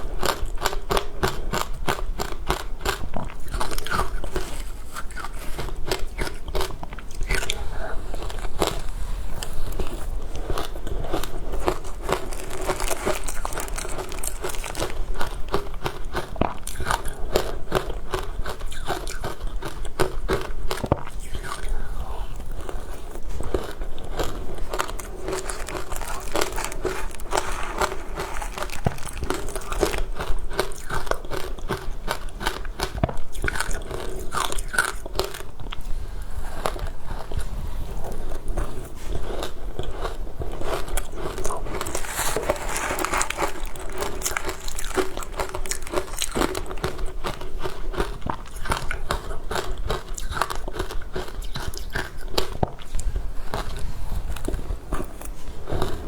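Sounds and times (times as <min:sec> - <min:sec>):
ice crunching between teeth: 0:00.2 - 0:35.5, 0:39.3 - 0:56.0.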